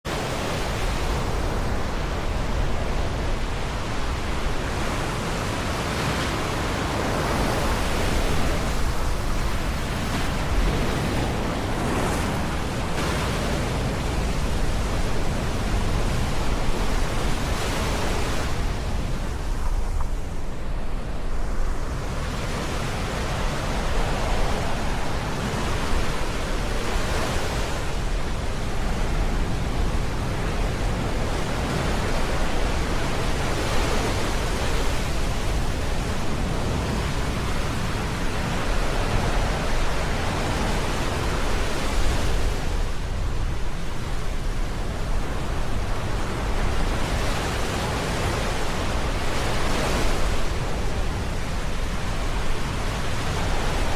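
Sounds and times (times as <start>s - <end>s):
ocean waves breaking: 0.1s - 53.9s.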